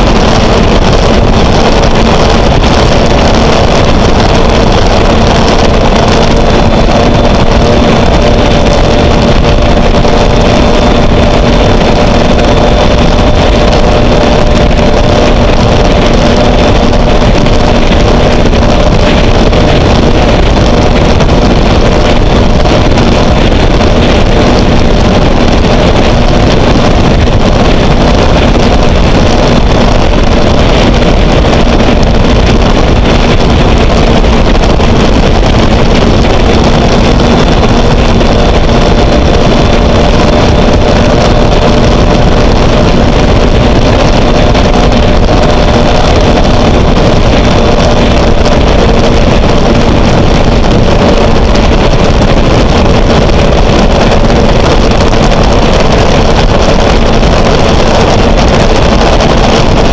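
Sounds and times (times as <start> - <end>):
high turbine whine: 0.0 - 59.9
loud constant rushing noise: 0.0 - 59.9.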